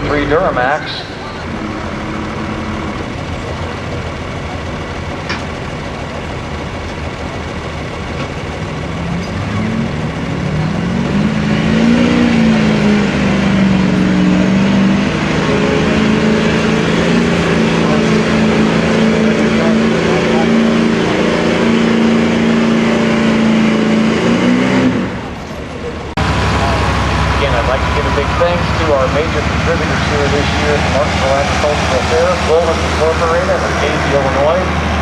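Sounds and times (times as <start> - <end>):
pickup diesel engine revving: 0.0 - 35.0.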